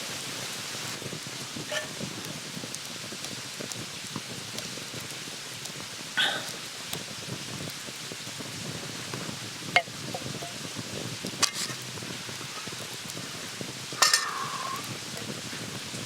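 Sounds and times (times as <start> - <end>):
food sizzling over campfire: 0.0 - 16.0.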